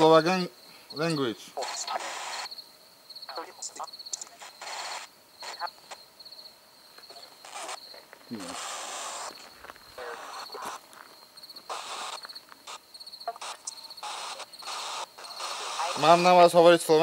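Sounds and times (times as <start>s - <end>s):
cricket trilling: 0.0s - 17.0s
hissing static bursts: 0.0s - 17.0s.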